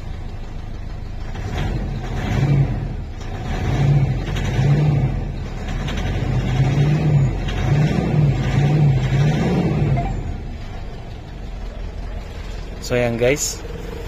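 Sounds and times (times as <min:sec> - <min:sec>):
diesel engine revving: 0:00.0 - 0:14.0.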